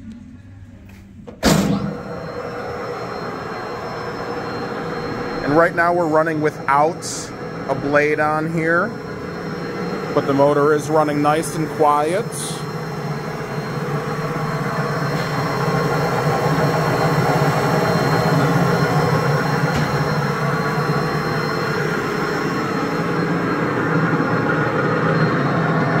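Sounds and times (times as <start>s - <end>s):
band saw motor humming: 1.7s - 26.0s.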